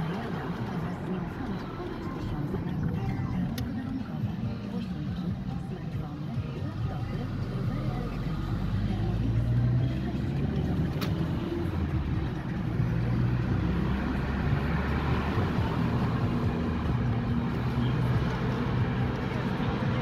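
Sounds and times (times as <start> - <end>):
car engine and tyre noise: 0.0 - 20.0.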